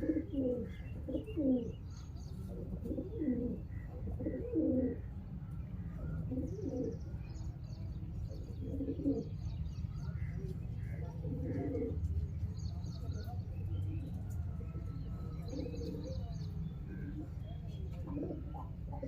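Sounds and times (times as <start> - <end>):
pigeons cooing: 0.0 - 5.2, 5.9 - 7.3, 8.2 - 9.5, 10.1 - 12.4, 13.2 - 19.0.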